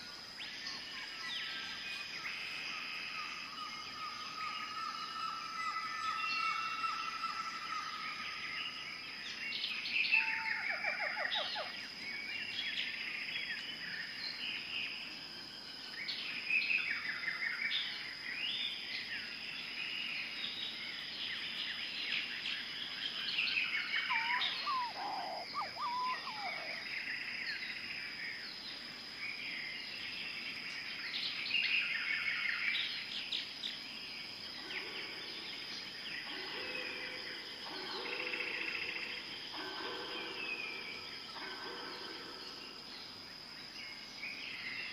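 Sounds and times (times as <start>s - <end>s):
birds chirping and trilling: 0.0s - 44.9s
high insect whine: 0.0s - 44.9s.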